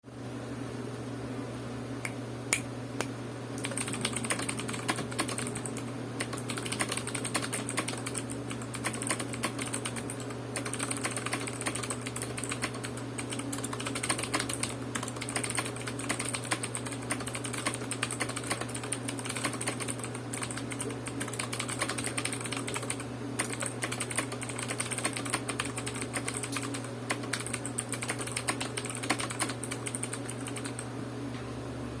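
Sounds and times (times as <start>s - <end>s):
steady low hum: 0.1s - 32.0s
mechanical keyboard typing: 3.6s - 30.8s.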